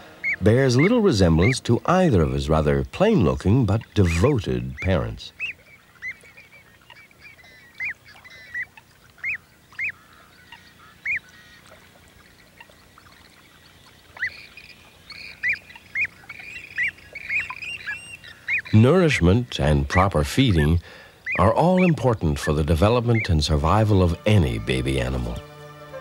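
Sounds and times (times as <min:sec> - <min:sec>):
bird chicks peeping: 0:03.4 - 0:25.4.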